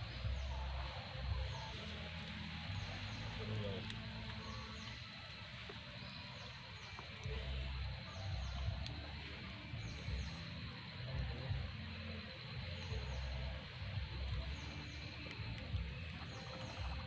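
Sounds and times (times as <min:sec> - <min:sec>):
bird chirping: 0:00.0 - 0:17.0
low rumbles: 0:00.0 - 0:17.0.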